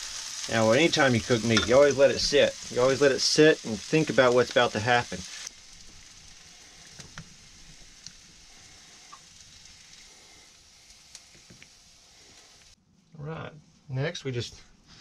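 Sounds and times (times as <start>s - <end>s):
vegetables sizzling in a pan: 0.0s - 12.8s.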